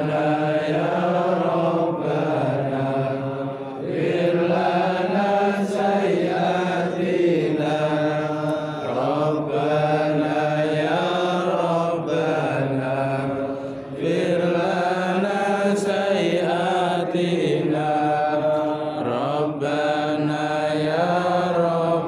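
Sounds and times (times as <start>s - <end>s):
men chanting in unison: 0.0s - 22.0s.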